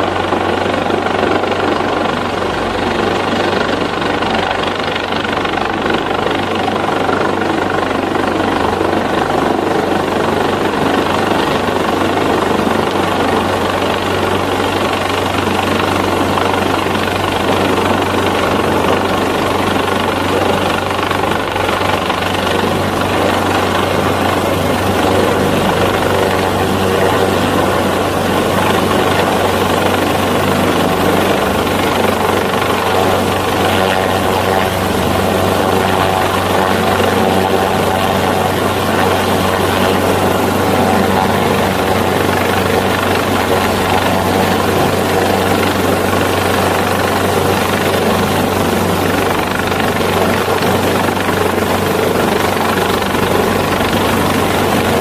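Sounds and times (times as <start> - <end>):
helicopter hovering: 0.0 - 55.0.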